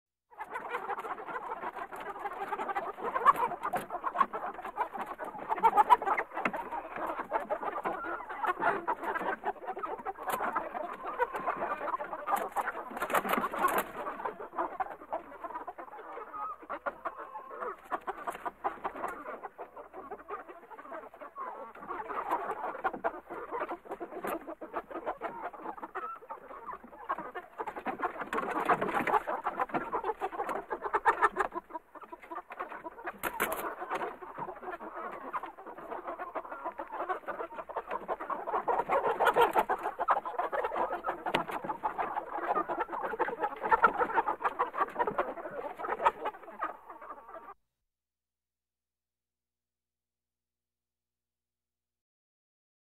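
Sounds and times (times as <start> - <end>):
hens clucking: 0.3 - 47.6.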